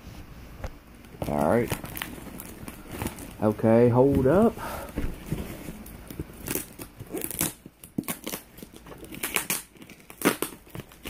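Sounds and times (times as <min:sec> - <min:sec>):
package crinkling and rustling: 0:01.0 - 0:11.0.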